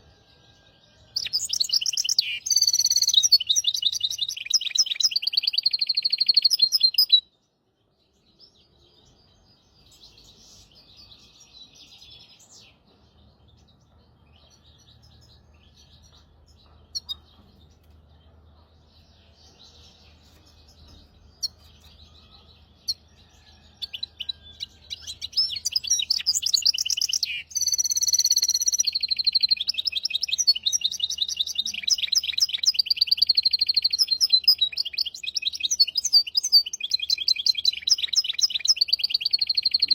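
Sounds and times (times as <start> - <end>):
finch singing trilled song: 1.1 - 7.3, 9.2 - 39.9.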